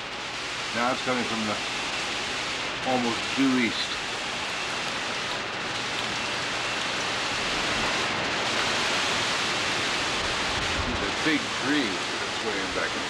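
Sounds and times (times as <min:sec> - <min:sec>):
heavy wind-driven rain pouring: 0:00.0 - 0:13.0.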